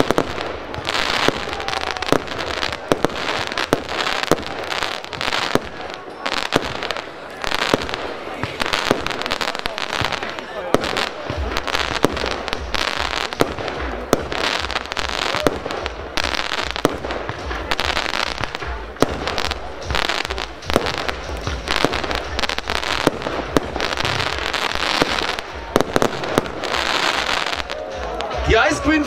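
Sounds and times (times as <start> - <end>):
fireworks crackling: 0.0 - 29.0
fireworks sharp bangs: 0.0 - 29.0.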